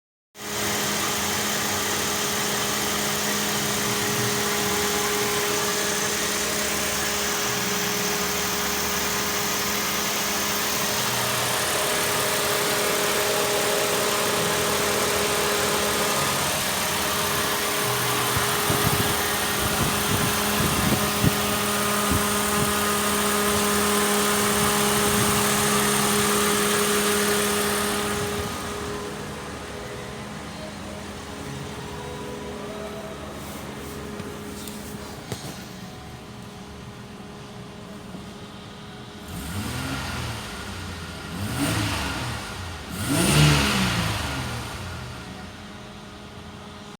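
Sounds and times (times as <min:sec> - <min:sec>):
car engine idling: 0:00.4 - 0:46.9.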